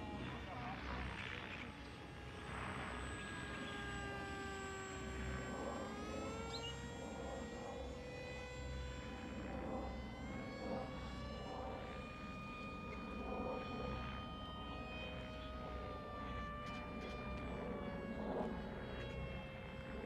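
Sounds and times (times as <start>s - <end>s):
model plane motor whining overhead: 0.0s - 20.0s.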